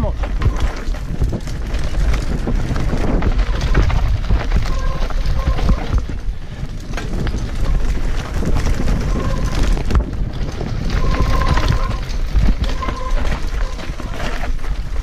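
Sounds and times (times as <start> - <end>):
bike rattling over loose stones: 0.0 - 15.0
wind buffeting microphone: 0.0 - 15.0.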